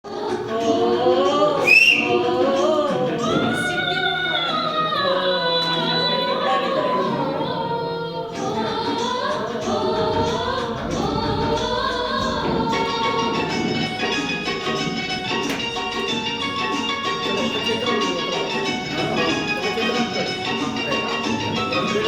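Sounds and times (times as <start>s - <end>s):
group of voices singing: 0.0s - 22.0s.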